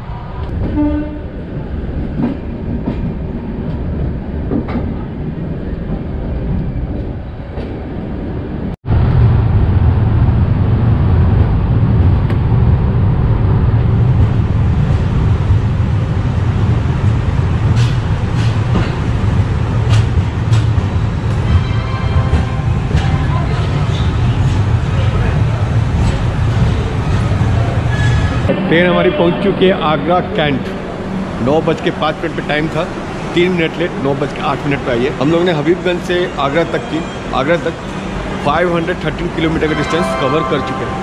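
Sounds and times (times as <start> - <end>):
train wheels rumbling on rails: 0.3 - 41.0.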